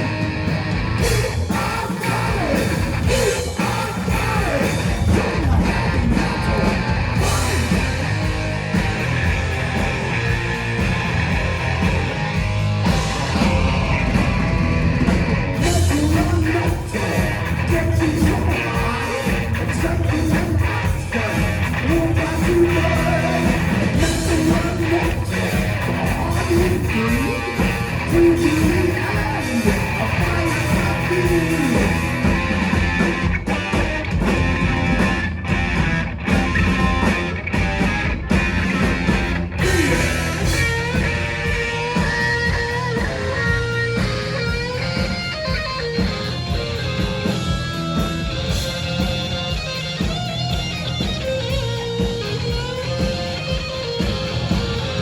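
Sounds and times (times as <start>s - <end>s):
heavy metal band playing live: 0.0s - 55.0s.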